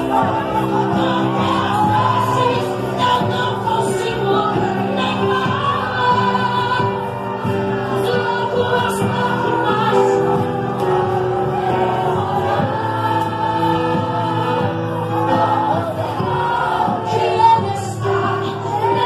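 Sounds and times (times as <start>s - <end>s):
congregation singing: 0.0s - 19.0s
lead singer: 0.0s - 19.0s.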